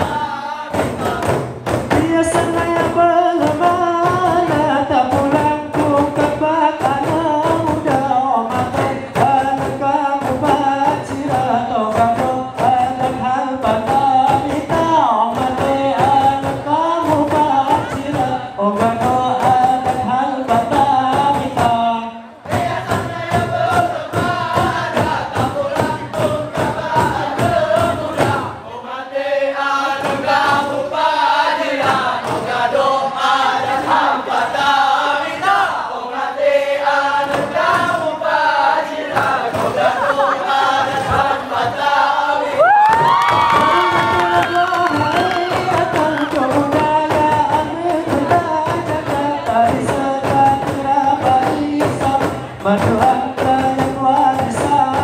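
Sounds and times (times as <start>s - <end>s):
frame drums beating: 0.0s - 28.7s, 29.5s - 55.0s
men singing and chanting in unison: 0.0s - 55.0s.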